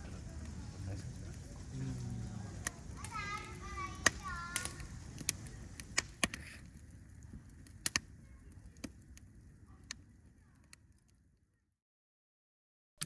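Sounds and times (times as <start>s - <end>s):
campfire crackling and popping: 0.0s - 11.6s.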